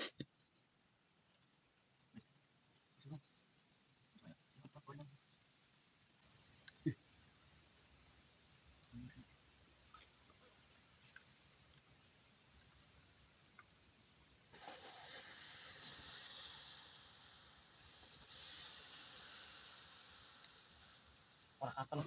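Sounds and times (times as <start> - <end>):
steady hiss: 0.0 - 22.0
crickets chirping: 0.1 - 5.2, 6.2 - 22.0.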